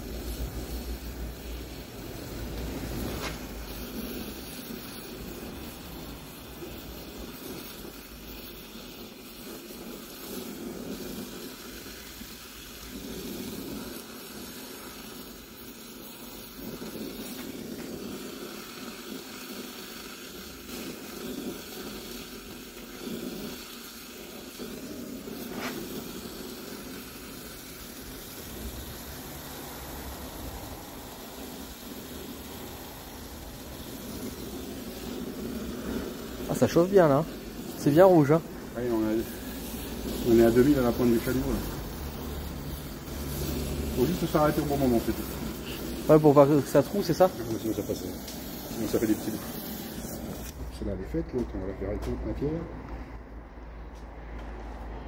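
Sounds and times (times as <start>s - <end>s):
welding torch flame hissing: 0.0s - 55.0s.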